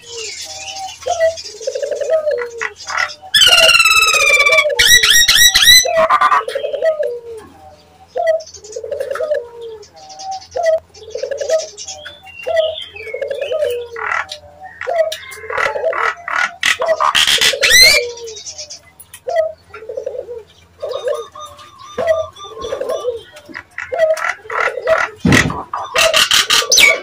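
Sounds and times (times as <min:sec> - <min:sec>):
low cooing notes: 0:00.0 - 0:27.0.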